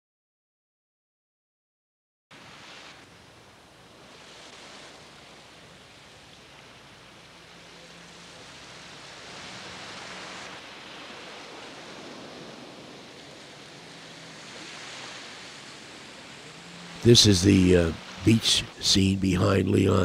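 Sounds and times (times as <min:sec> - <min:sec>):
waves washing onto sandy beach: 0:02.3 - 0:20.0.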